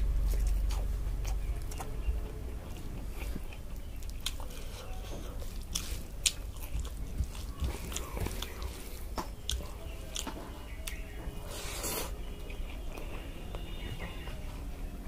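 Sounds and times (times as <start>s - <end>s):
person chewing rice: 0.0s - 13.8s.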